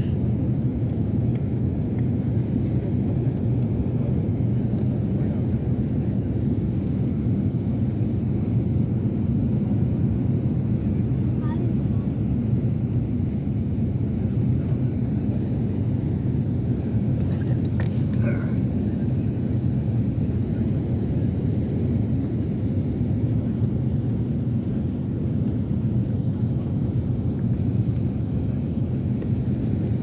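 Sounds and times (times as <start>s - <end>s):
jet airliner rumble: 0.0s - 30.0s.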